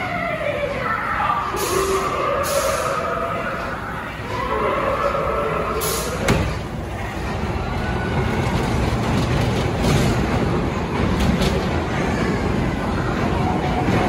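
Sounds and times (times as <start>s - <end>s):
ride car rattling on track: 1.3s - 14.0s.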